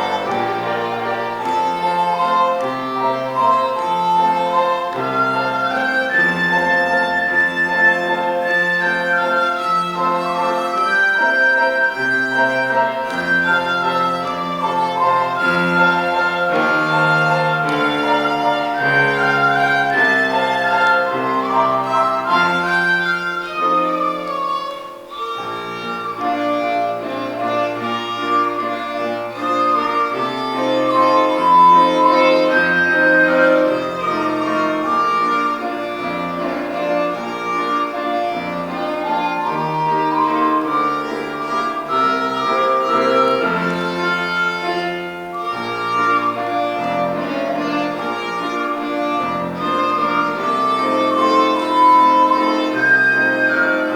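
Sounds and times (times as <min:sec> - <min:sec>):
held cello bass notes: 0:00.0 - 0:53.9
violin melody: 0:00.0 - 0:53.9.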